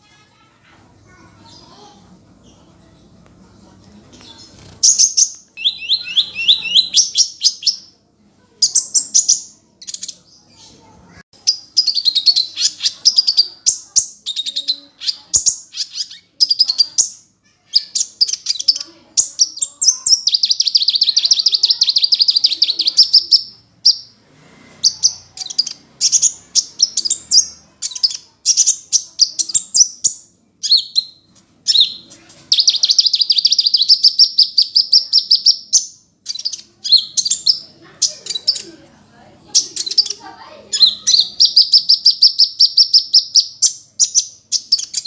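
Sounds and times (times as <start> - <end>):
bird chirping: 4.1 - 45.0.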